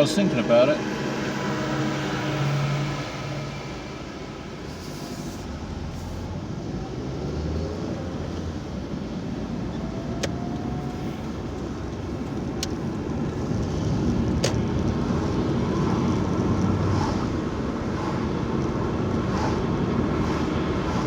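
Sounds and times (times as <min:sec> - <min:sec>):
car road noise rumble: 0:00.0 - 0:21.0.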